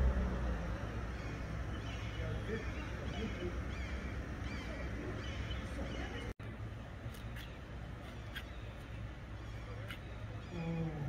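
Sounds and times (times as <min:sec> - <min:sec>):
steady low street rumble: 0:00.0 - 0:11.0.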